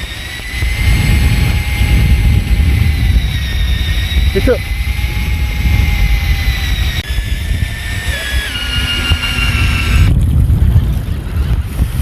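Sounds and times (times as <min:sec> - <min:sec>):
mechanical whine: 0:00.0 - 0:12.0
wind rumbling on microphone: 0:00.0 - 0:12.0.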